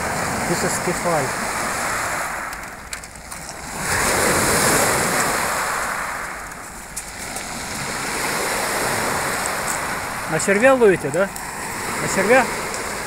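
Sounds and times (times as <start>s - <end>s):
wave washing over pebbles: 0.0s - 13.0s.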